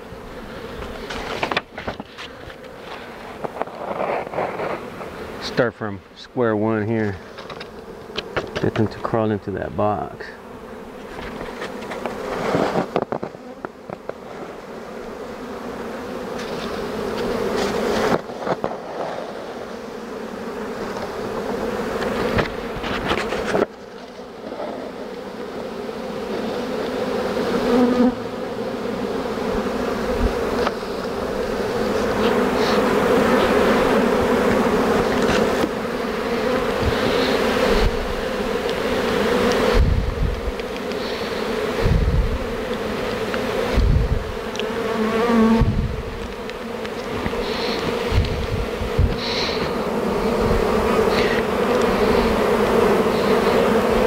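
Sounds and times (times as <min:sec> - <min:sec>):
bee swarm buzzing: 0:00.0 - 0:54.0.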